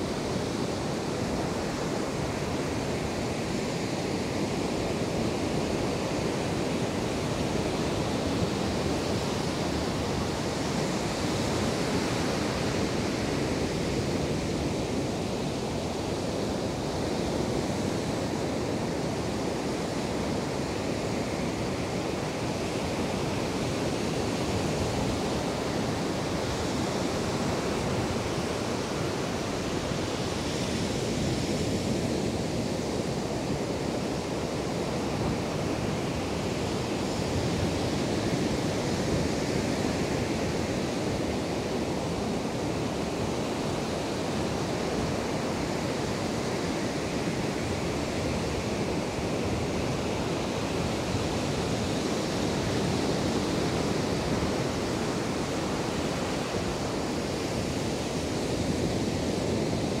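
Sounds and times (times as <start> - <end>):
ocean surf breaking on beach: 0.0 - 60.0.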